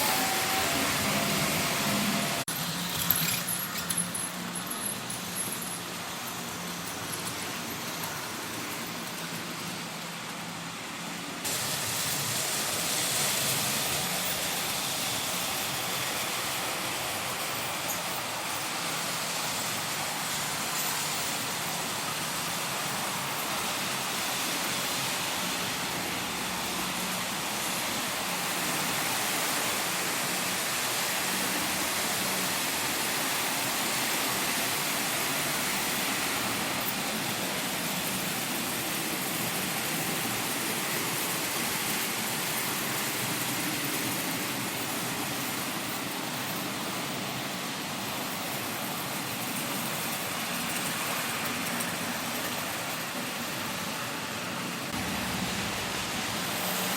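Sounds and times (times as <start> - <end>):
model trains whirring: 0.0 - 56.9.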